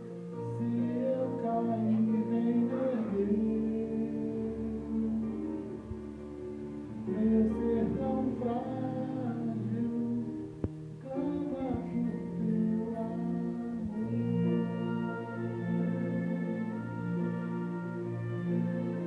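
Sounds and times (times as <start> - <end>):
music with singing voices: 0.0 - 19.0.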